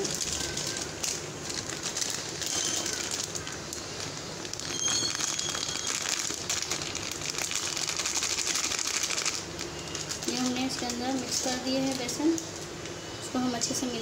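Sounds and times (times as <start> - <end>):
plastic packet crinkling: 0.0 - 12.6.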